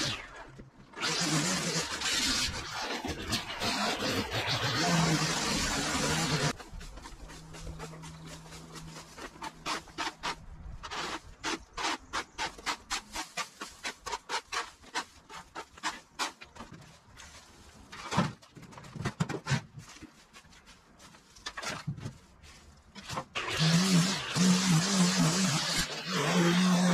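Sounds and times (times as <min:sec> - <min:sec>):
rake scraping over concrete: 0:00.0 - 0:26.9.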